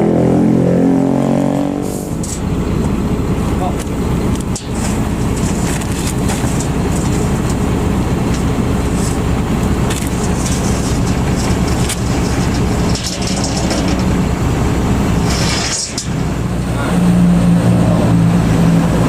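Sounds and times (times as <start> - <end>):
vehicle engine idling: 1.9 - 19.0.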